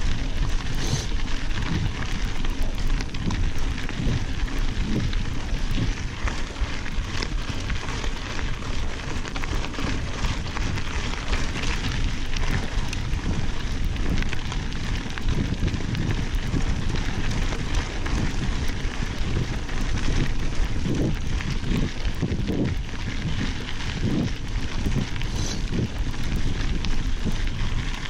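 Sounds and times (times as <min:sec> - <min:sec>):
bike rattling: 0:00.0 - 0:28.0
bike tyres crackling on gravel: 0:00.0 - 0:28.0.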